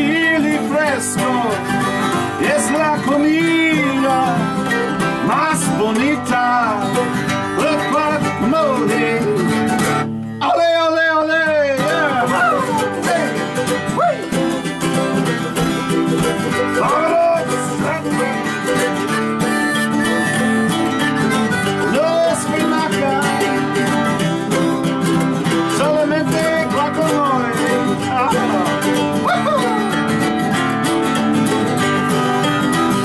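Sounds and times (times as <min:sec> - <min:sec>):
harmonica melody: 0:00.0 - 0:10.4, 0:11.8 - 0:33.0
mandolin picking: 0:00.0 - 0:10.5, 0:11.5 - 0:33.0
acoustic guitar strumming: 0:00.0 - 0:33.0.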